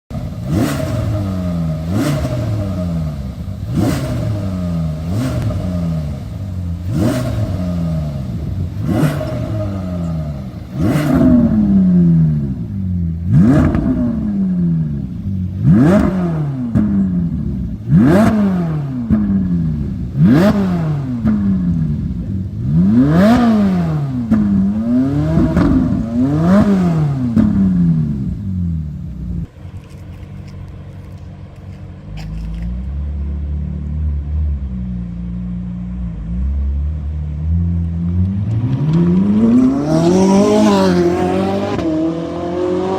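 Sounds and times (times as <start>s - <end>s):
car engine revving: 0.1s - 42.9s
exhaust crackles: 0.1s - 42.9s.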